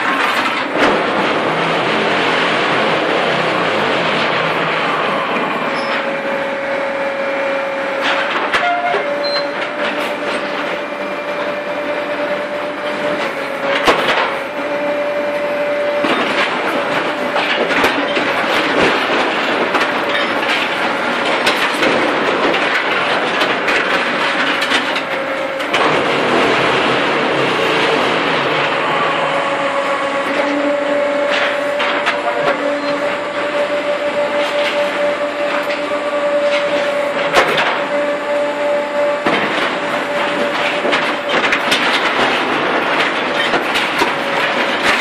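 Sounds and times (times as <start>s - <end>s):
machinery clattering and rattling: 0.0s - 45.0s.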